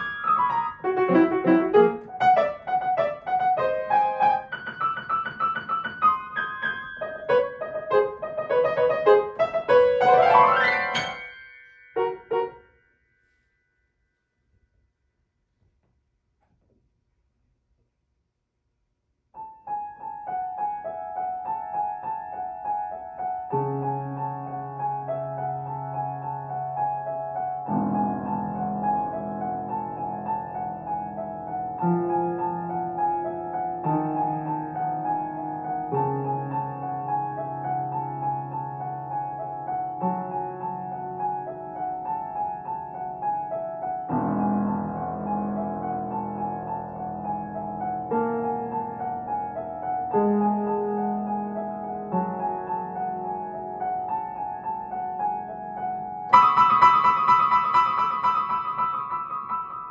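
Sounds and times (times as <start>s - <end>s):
grand piano playing: 0.0s - 12.7s, 19.4s - 59.9s.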